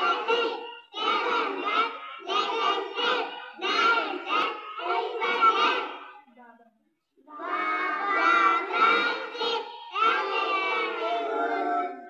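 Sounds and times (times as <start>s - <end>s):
children singing in unison: 0.0s - 6.2s, 7.3s - 12.0s.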